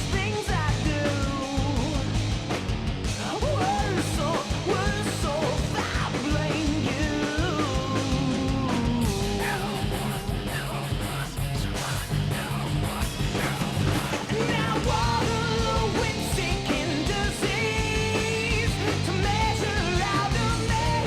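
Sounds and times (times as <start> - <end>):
rock music with singing: 0.0 - 21.0.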